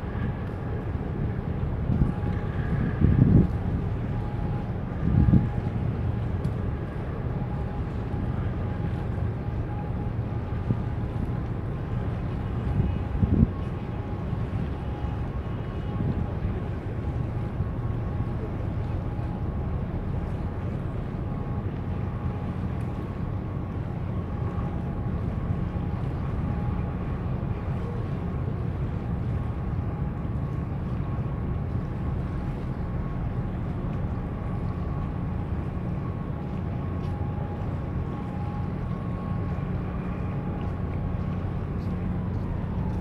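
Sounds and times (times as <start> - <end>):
boat engines rumbling: 0.0 - 43.0
faint steady whine: 0.0 - 43.0
wind buffeting microphone: 0.0 - 43.0.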